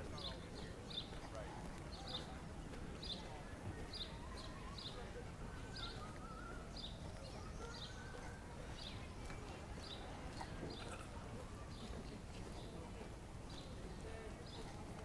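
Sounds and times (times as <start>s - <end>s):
low rumble of city noise: 0.0s - 15.0s.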